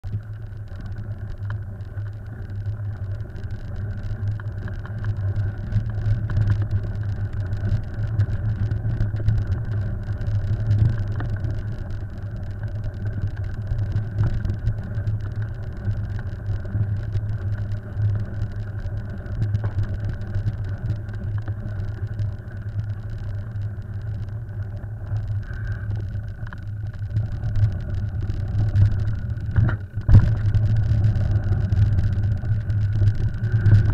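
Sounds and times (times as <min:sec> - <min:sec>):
wind rumble: 0:00.0 - 0:33.9
bike rattles and knocks: 0:00.8 - 0:33.9.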